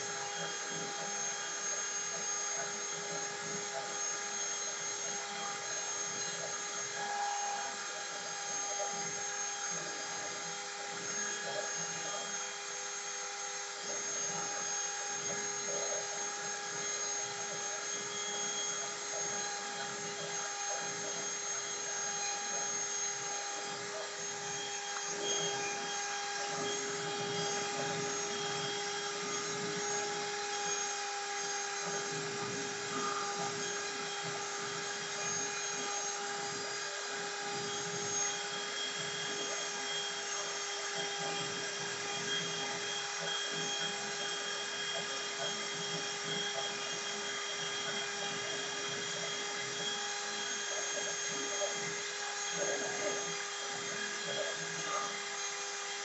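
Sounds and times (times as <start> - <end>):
hiss of cutting wood: 0.0 - 56.0
router spindle whine: 0.0 - 56.0.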